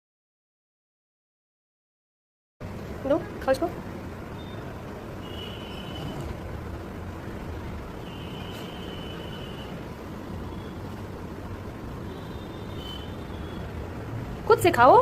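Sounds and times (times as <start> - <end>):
low background rumble: 2.6 - 15.0.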